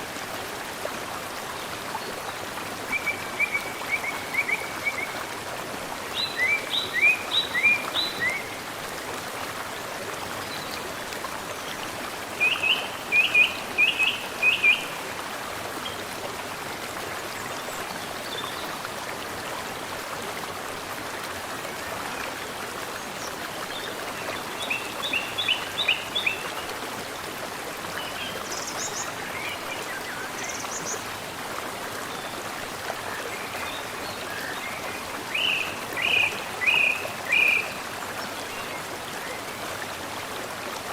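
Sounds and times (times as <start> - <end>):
mountain stream flowing: 0.0 - 40.9.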